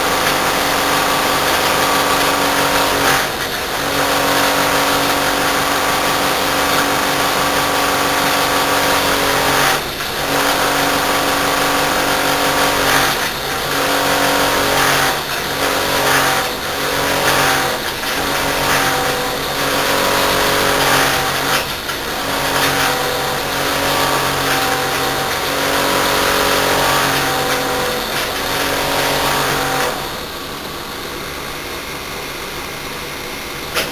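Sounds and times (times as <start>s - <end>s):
compressor drone with knocks: 0.0s - 33.9s.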